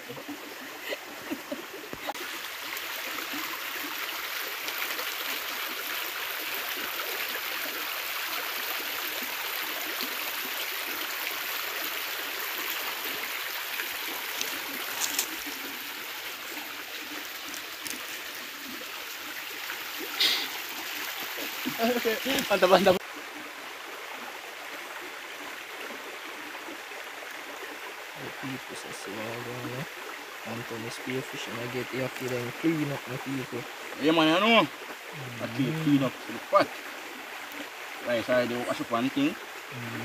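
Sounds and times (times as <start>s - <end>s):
river water flowing: 0.0s - 40.0s.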